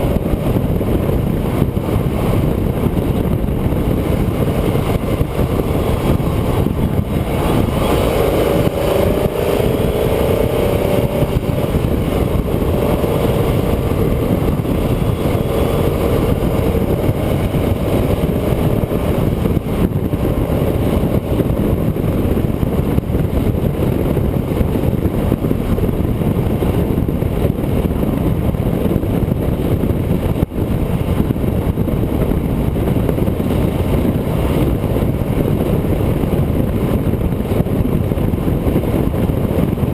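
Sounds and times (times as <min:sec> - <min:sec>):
road noise: 0:00.0 - 0:39.9
vehicle engine: 0:00.0 - 0:39.9
wind noise: 0:00.0 - 0:39.9.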